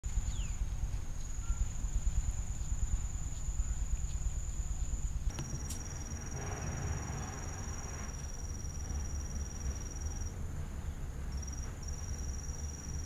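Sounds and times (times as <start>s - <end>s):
low rumbling noise: 0.0s - 13.0s
lower insect trill: 0.1s - 10.4s, 11.3s - 13.0s
high insect trill: 0.1s - 10.5s, 11.3s - 13.0s.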